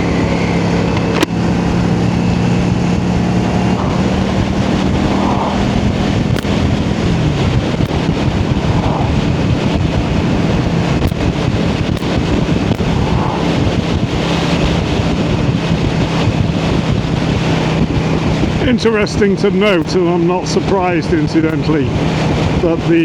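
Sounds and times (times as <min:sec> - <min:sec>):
motorcycle engine running: 0:00.0 - 0:20.8
wind buffeting microphone: 0:00.0 - 0:23.0.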